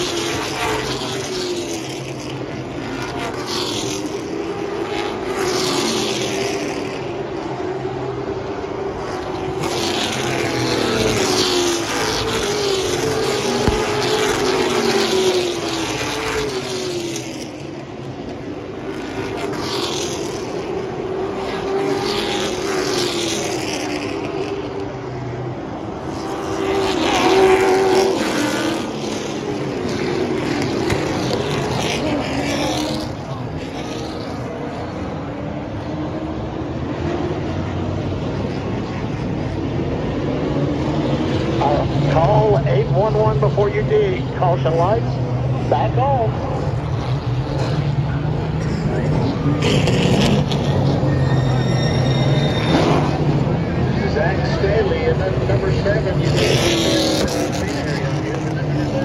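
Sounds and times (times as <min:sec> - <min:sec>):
stock car engines revving: 0:00.0 - 0:59.0.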